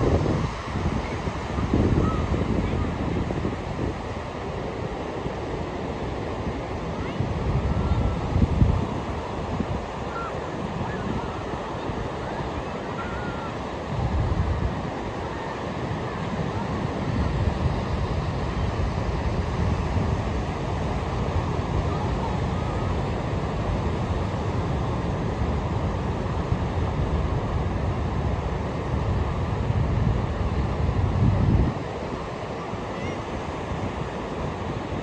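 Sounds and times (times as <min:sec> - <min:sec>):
ocean surf on a beach: 0:00.0 - 0:35.0
wind buffeting microphone: 0:00.0 - 0:35.0.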